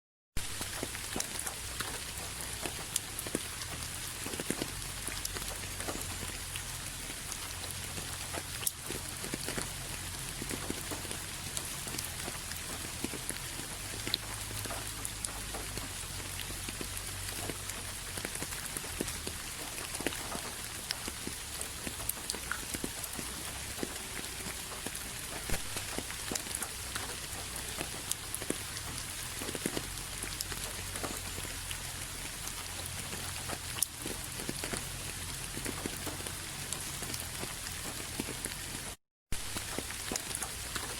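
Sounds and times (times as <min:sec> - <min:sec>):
steady rain hiss: 0:00.4 - 0:40.9.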